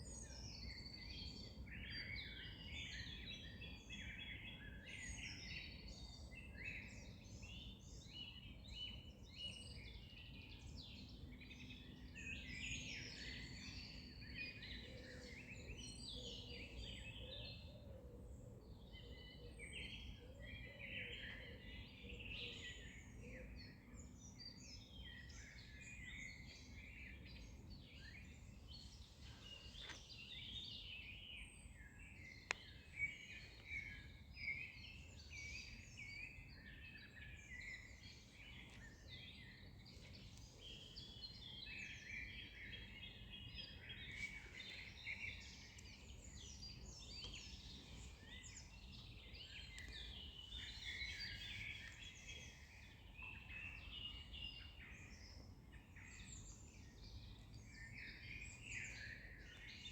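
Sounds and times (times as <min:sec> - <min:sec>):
many birds singing: 0:00.0 - 0:59.9.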